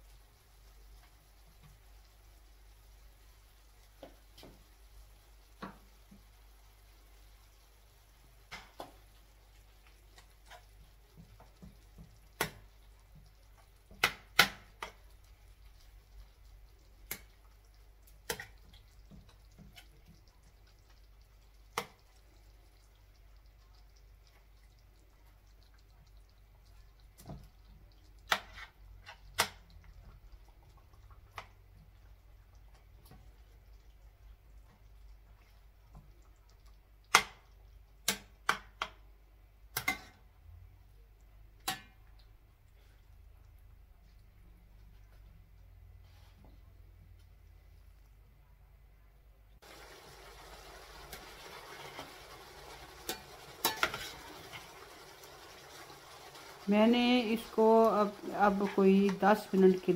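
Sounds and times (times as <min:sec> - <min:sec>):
soft wet squelches: 0:00.0 - 0:49.7.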